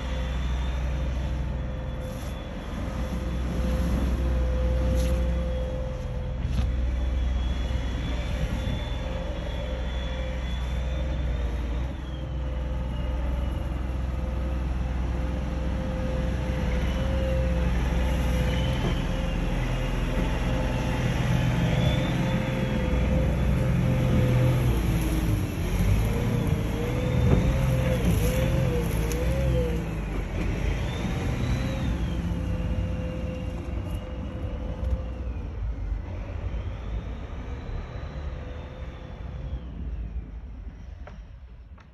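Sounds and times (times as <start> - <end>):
diesel engine rumble: 0.0 - 41.9.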